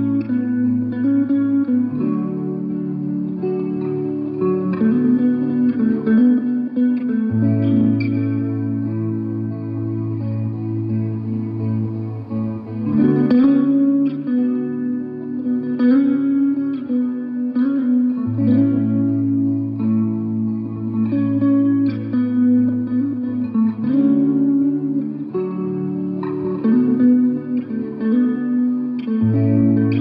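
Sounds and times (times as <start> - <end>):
electric guitar chords ringing: 0.0 - 30.0.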